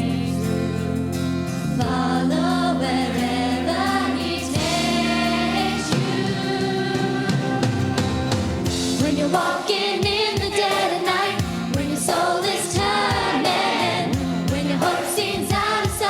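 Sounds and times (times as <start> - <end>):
choir singing gospel: 0.0 - 16.0
instrumental accompaniment: 2.9 - 16.0.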